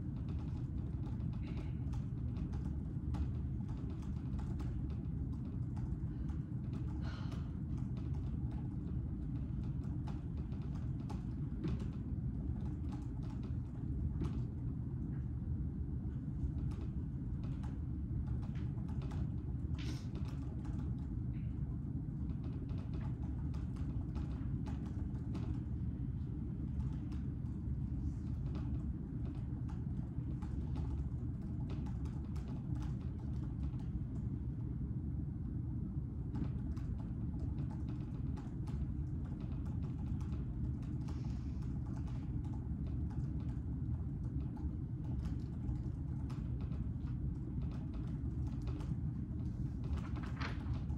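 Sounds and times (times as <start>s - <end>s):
low room rumble: 0.0s - 50.9s.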